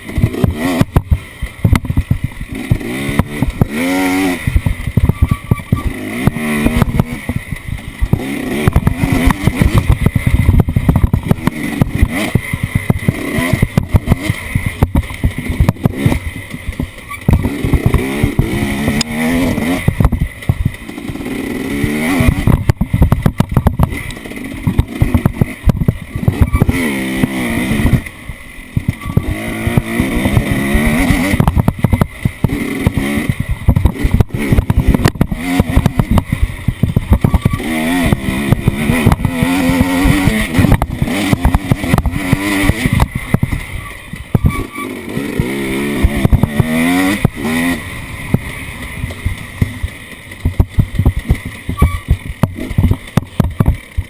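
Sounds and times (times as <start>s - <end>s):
knocks and buffeting: 0.0s - 54.0s
off-road vehicle engine revving: 0.0s - 54.0s.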